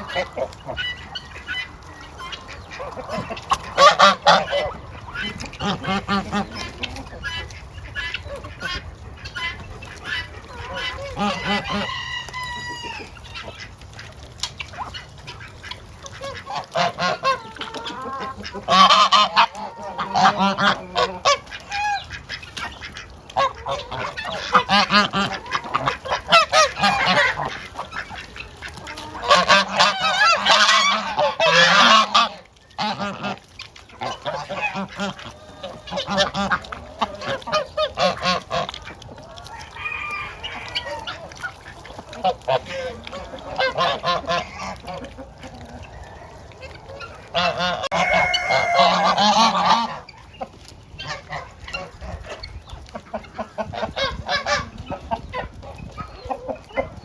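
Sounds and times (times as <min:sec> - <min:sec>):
geese honking: 0:00.0 - 0:57.0.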